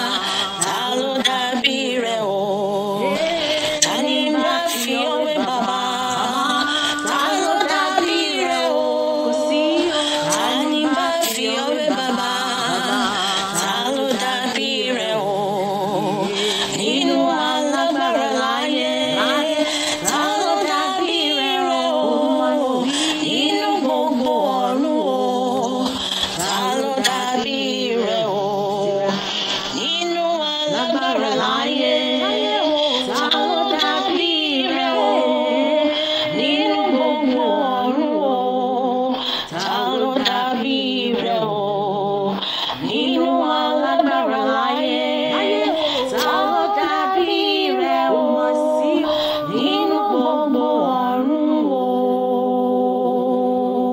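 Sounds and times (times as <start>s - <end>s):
woman singing in harmony: 0.0s - 53.9s.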